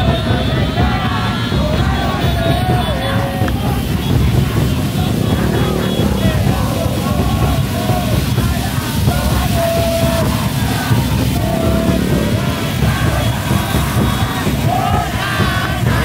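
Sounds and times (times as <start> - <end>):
crowd chanting and singing: 0.0 - 16.0.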